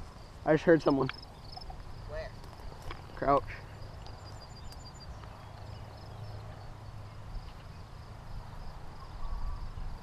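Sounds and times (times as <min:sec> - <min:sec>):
faint insects chirping: 0:00.0 - 0:10.0.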